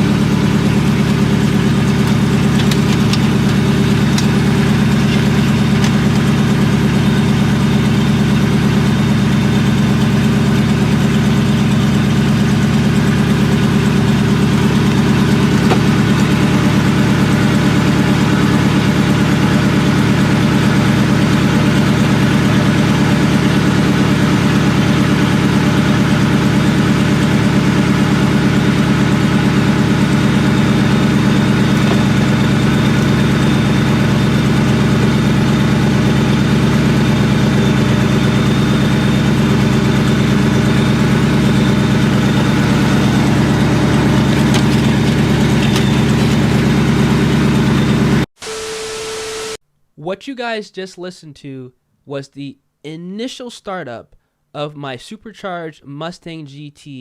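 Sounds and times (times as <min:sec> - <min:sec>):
car engine idling: 0:00.0 - 0:48.3.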